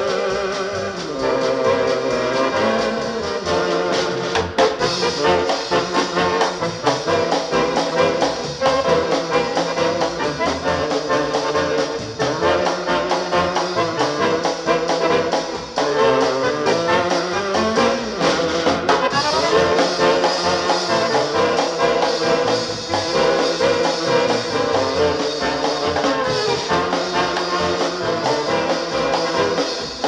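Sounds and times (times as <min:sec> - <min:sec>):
brass horns playing tune: 0:00.0 - 0:30.0
polka band playing: 0:00.0 - 0:30.0.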